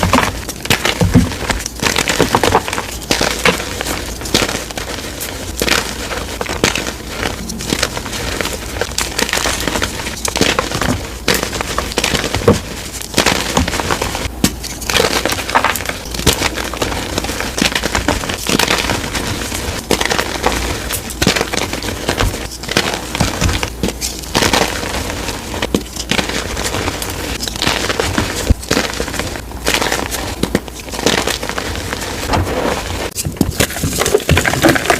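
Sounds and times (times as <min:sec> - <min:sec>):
chalk crunching and crackling: 0:00.0 - 0:34.9.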